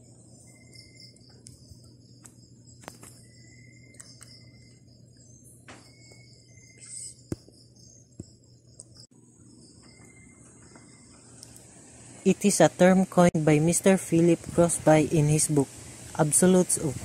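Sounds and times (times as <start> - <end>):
insects chirring: 0.0 - 17.0
low steady hum: 0.0 - 17.0.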